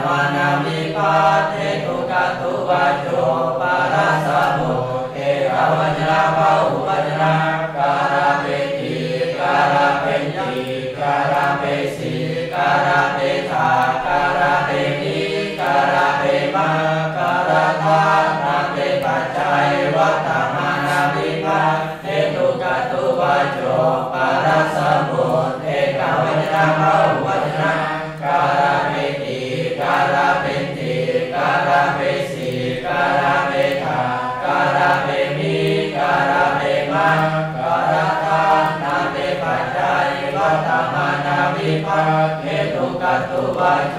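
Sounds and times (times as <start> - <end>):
voices chanting together: 0.0 - 43.9.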